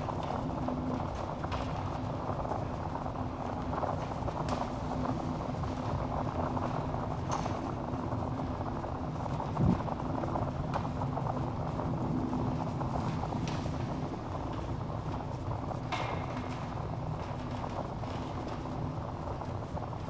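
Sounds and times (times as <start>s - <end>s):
fire crackling and rumbling: 0.0s - 20.0s.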